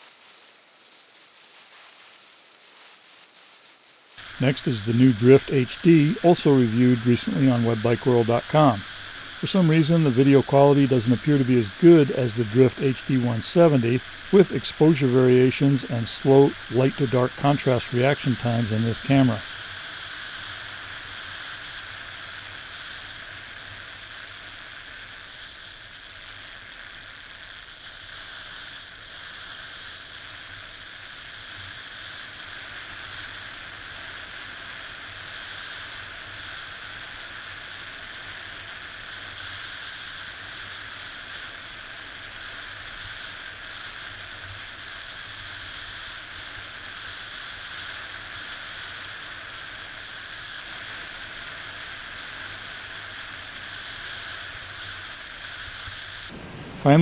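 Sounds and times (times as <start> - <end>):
wind and road noise hiss: 0.0 - 57.0.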